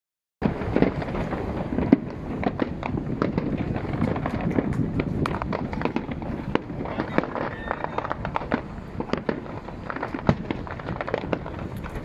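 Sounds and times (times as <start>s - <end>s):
fireworks bursting and crackling: 0.4s - 12.0s
loud firework bang: 0.4s - 12.0s.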